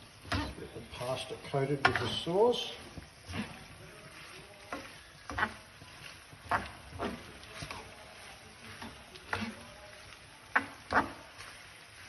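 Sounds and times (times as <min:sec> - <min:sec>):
utensil scraping and knocking a pan: 0:00.1 - 0:12.0.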